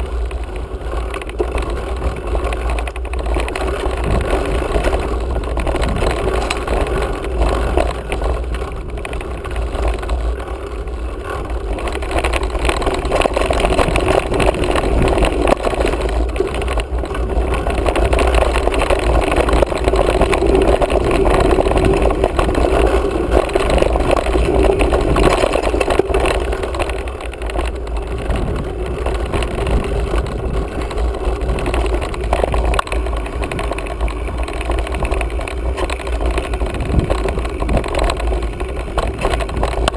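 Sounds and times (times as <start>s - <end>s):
bike rattles: 0.0s - 39.9s
bike tyres rolling over dirt: 0.0s - 39.9s
wind rumble on microphone: 0.0s - 39.9s.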